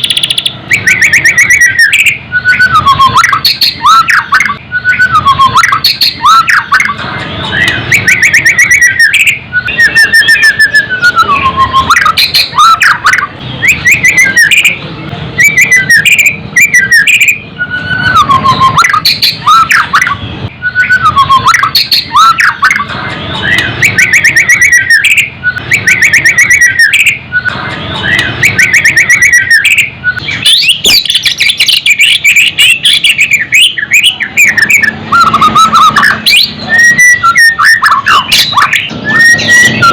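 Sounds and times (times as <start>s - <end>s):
bird singing whistled phrases: 0.0s - 14.8s, 15.4s - 39.9s.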